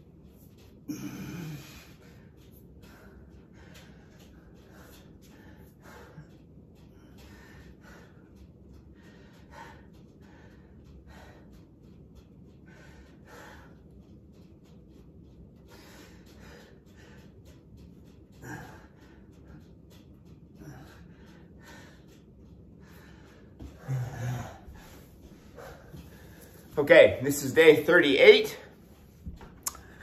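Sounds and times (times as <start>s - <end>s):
man breathing: 0.3s - 26.8s, 28.7s - 30.0s.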